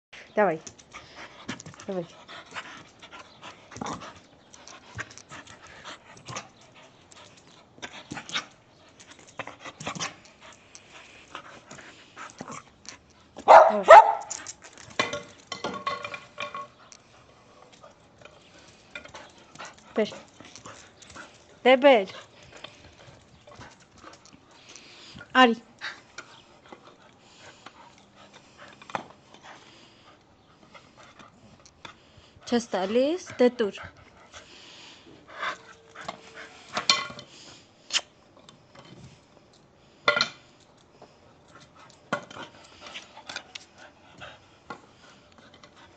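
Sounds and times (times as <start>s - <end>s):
dog panting: 0.4s - 15.2s, 16.1s - 37.8s, 40.8s - 45.9s.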